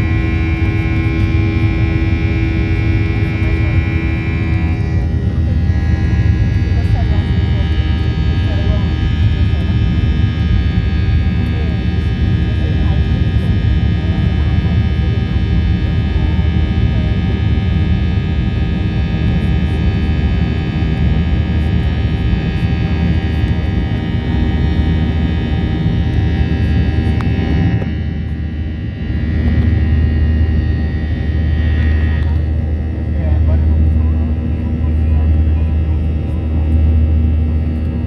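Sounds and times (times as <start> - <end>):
airplane cabin engine rumble: 0.0 - 38.0
high engine whine: 0.0 - 38.0.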